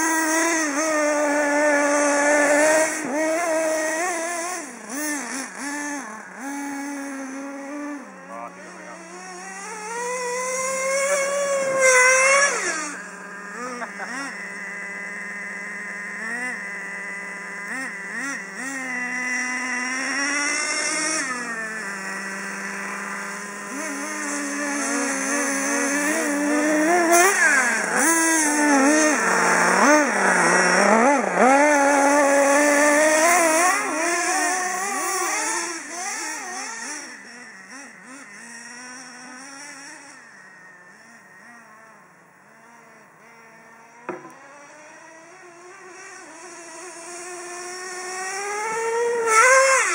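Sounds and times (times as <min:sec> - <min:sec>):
small engine high-pitched buzz revving: 0:00.0 - 0:49.9.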